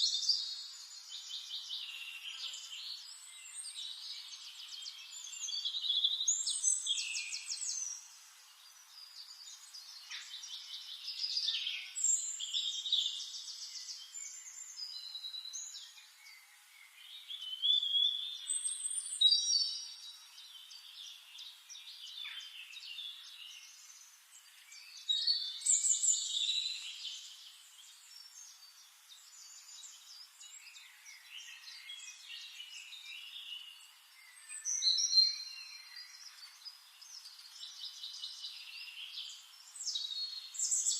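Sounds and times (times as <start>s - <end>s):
songbirds singing and calling: 0.0s - 40.9s.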